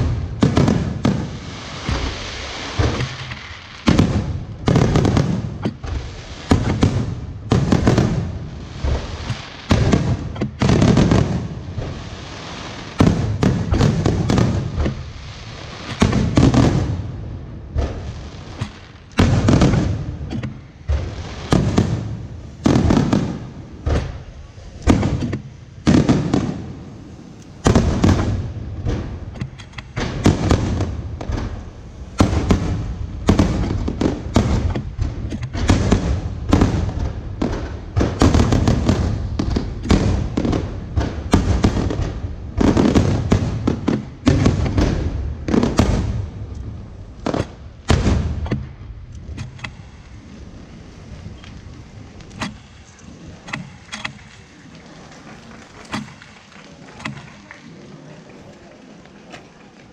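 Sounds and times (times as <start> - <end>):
fireworks bangs with echo: 0.0 - 57.7.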